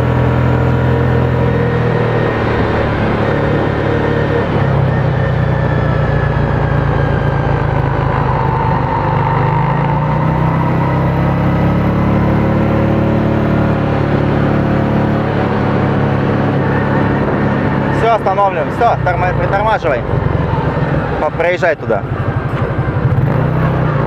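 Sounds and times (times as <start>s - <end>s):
small petrol engine running: 0.0s - 24.0s.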